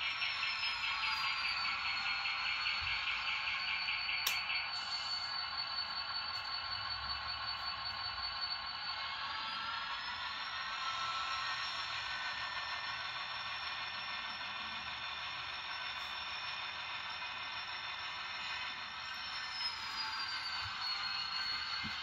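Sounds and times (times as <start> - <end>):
model locomotive whine: 0.0 - 22.0.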